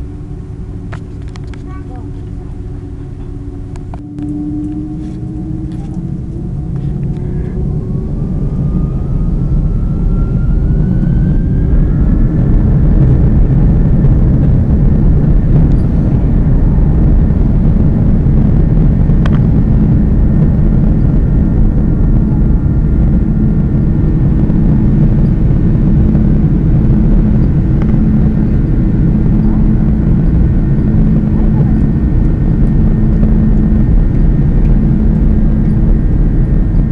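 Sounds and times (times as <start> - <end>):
jet engines roaring: 0.0 - 36.9
rising engine whine: 0.0 - 36.9.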